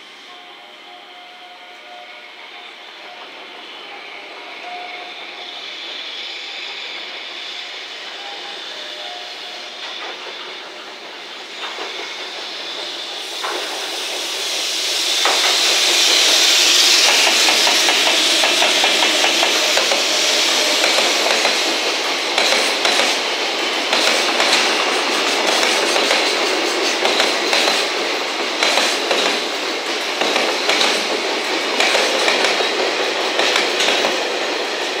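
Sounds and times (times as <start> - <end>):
electric locomotives passing: 0.0 - 35.0.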